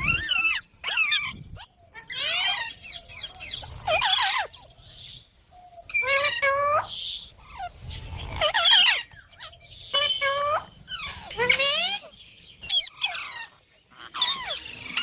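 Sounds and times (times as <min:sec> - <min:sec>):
parrot squawking: 0:00.0 - 0:04.6, 0:05.9 - 0:15.0.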